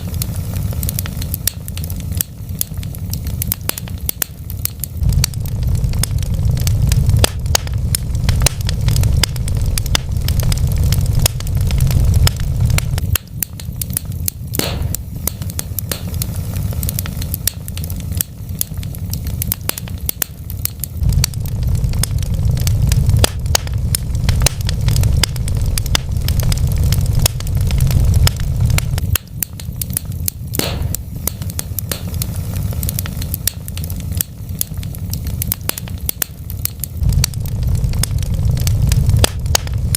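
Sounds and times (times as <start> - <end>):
low rumble of burning logs: 0.0 - 39.9
wood fire crackling and popping: 0.0 - 39.9.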